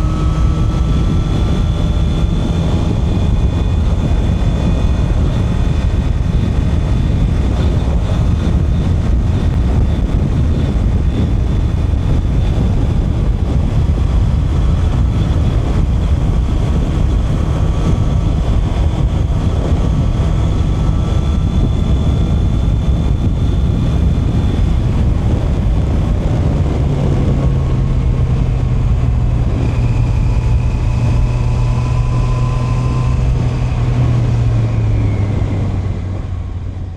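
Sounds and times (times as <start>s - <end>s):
motorcycle engine running: 0.0s - 36.9s
wind rumble on microphone: 0.0s - 36.9s.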